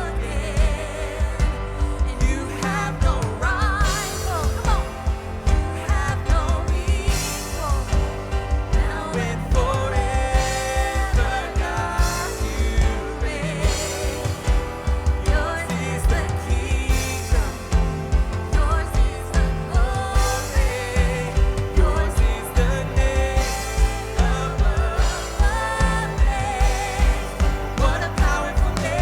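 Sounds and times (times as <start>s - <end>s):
live worship band playing: 0.0s - 29.0s
person singing: 0.0s - 29.0s.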